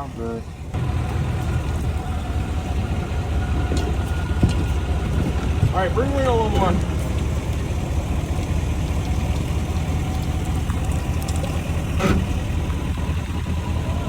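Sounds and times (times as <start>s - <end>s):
engine knock: 0.0s - 14.0s
outboard motor running: 0.0s - 14.0s.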